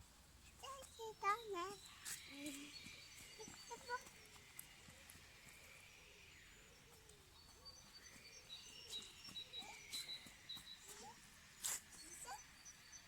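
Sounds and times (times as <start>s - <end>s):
faint high bird chirps: 0.4s - 13.0s.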